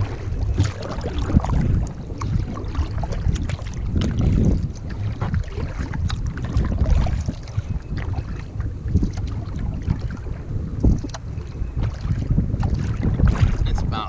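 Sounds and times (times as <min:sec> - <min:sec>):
water splashing against kayak: 0:00.0 - 0:14.0
wind buffeting microphone: 0:00.0 - 0:14.0.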